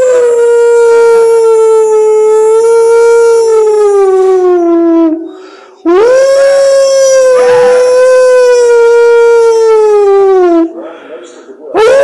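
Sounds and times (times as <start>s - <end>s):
hound dog howling: 0.0s - 5.3s, 5.9s - 10.7s.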